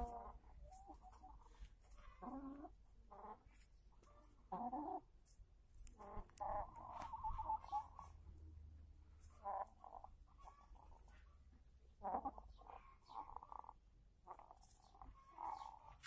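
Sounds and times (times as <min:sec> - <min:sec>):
hens clucking: 0:00.0 - 0:05.2, 0:05.8 - 0:16.0.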